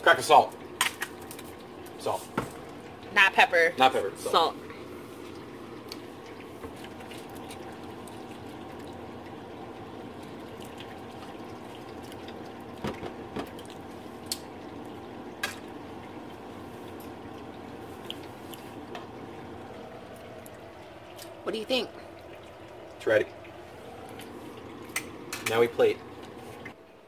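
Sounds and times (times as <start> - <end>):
sauce bubbling and sizzling in pan: 0.0 - 26.8.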